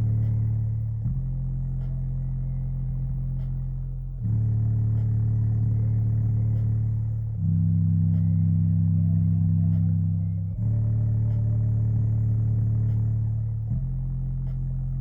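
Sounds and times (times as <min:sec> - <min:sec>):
subwoofer playing deep bass notes: 0:00.0 - 0:15.0.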